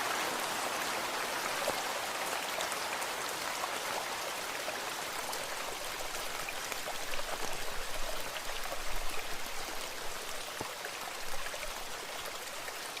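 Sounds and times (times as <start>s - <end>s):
rain drops striking: 0.0s - 3.1s, 5.0s - 13.0s.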